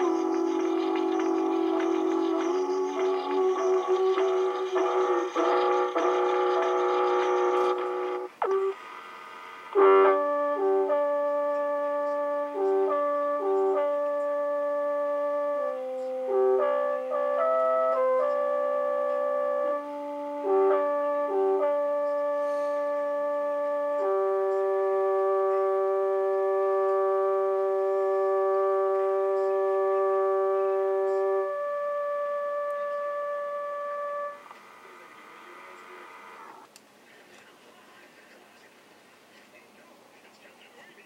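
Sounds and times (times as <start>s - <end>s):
horn-like chords: 0.0s - 8.9s, 9.7s - 36.7s.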